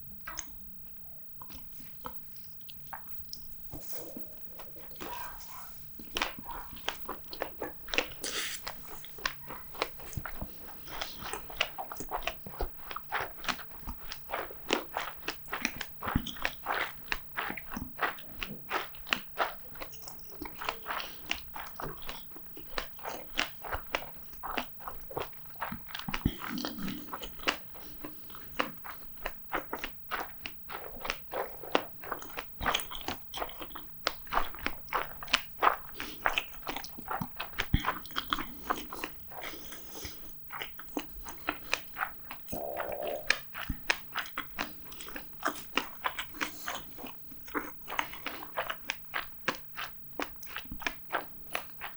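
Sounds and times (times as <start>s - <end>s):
person chewing with wet mouth clicks: 0.0s - 51.9s.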